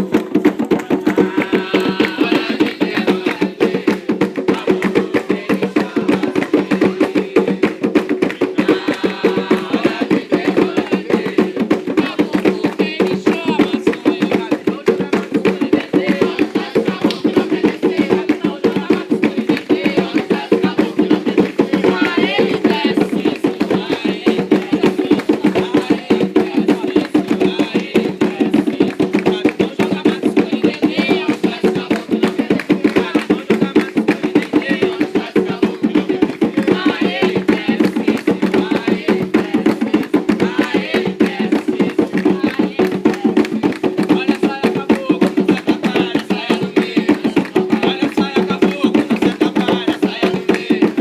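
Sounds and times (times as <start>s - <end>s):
group of voices singing: 0.0s - 51.0s
hand drums beating fast rhythm: 0.0s - 51.0s.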